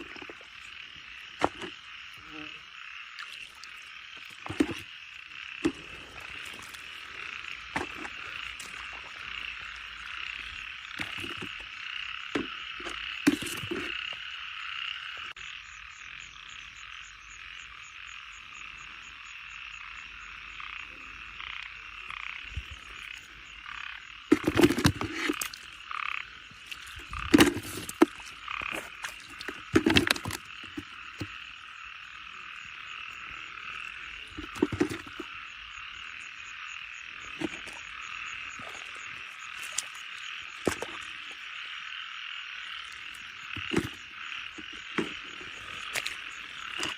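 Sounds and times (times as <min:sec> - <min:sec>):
frogs croaking: 0:00.0 - 0:46.9.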